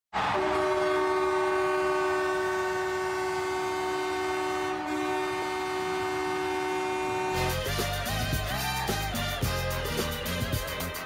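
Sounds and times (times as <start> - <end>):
goal horn blast: 0.2 - 11.0.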